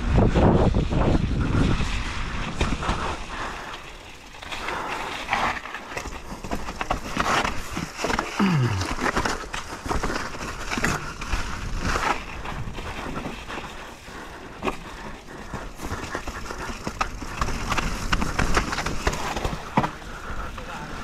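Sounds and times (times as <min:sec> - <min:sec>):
bike clicks and rattles: 0:00.0 - 0:21.0
bike tyres running over ground: 0:00.0 - 0:21.0.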